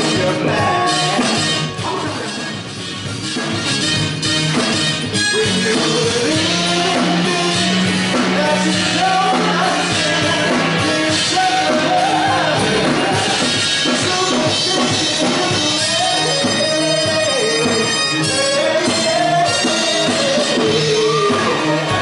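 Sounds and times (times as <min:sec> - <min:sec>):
man singing: 0:00.0 - 0:02.5, 0:05.1 - 0:22.0
live band playing soul music: 0:00.0 - 0:22.0.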